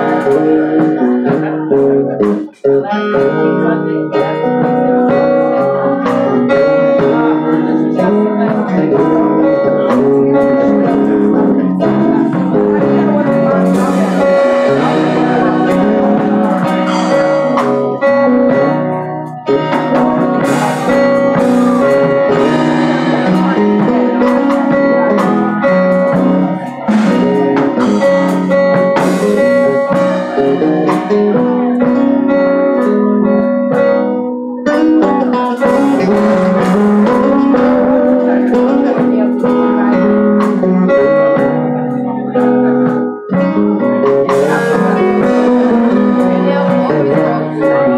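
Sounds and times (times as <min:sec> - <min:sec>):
live band playing: 0:00.0 - 0:47.9.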